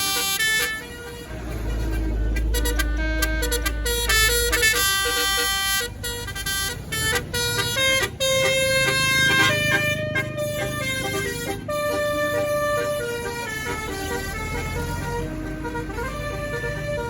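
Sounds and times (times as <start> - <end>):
musical air horn playing tune: 0.0 - 17.0.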